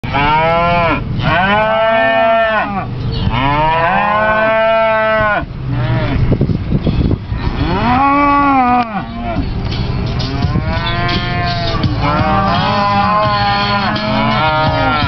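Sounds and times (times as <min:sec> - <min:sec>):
cattle mooing: 0:00.0 - 0:06.3, 0:07.3 - 0:09.5, 0:10.2 - 0:15.0.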